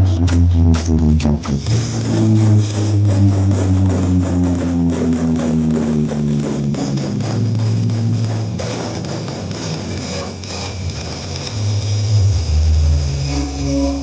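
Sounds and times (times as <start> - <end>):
deep bass notes: 0.0 - 14.0.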